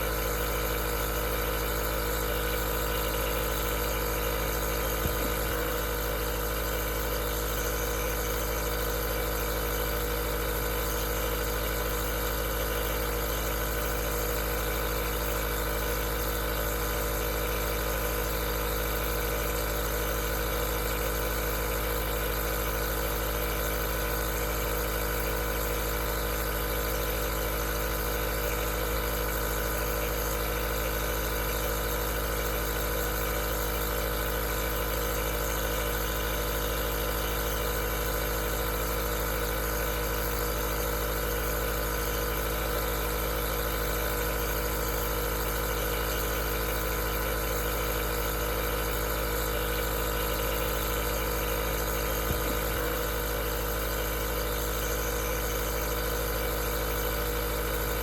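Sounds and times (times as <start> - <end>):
compressor motor humming: 0.0 - 58.0.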